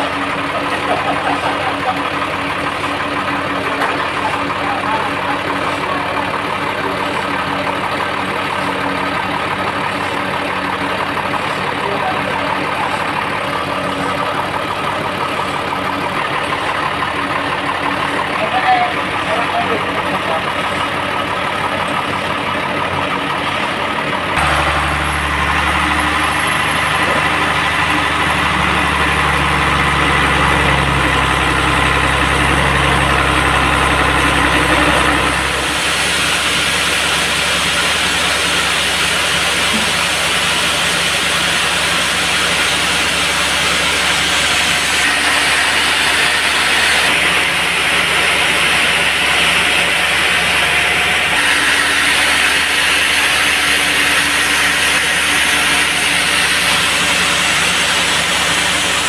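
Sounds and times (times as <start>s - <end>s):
band sawmill sawing log: 0.0s - 59.0s.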